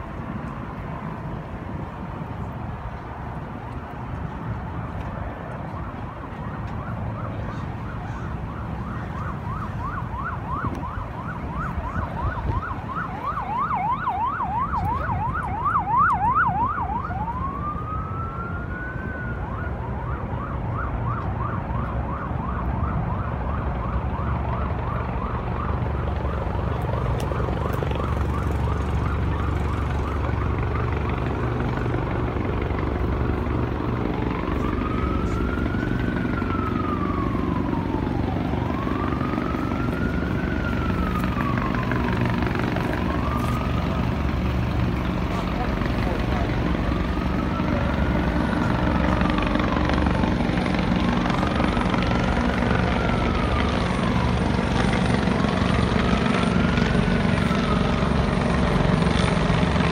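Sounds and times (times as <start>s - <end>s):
emergency vehicle siren: 0.0s - 59.9s.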